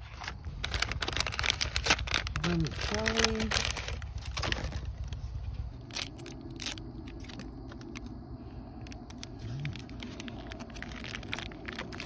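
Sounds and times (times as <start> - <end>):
foil sachet crinkling: 0.0 - 8.1, 8.8 - 12.0
steady low rumble: 0.4 - 12.0.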